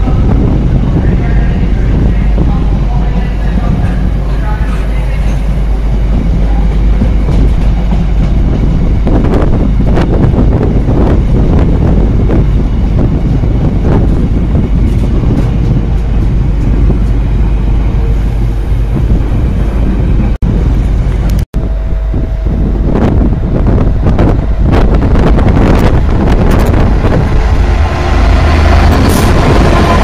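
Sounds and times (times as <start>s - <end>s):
train wheels rumbling on rails: 0.0s - 30.0s
wind buffeting microphone: 0.0s - 30.0s.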